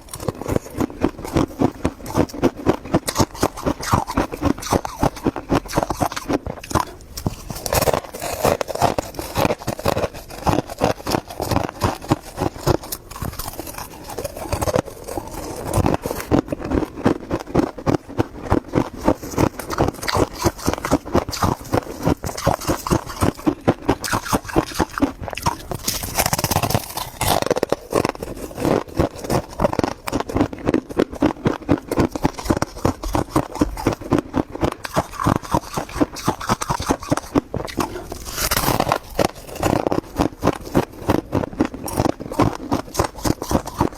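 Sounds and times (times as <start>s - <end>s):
frost being chewed crunching: 0.0s - 43.9s.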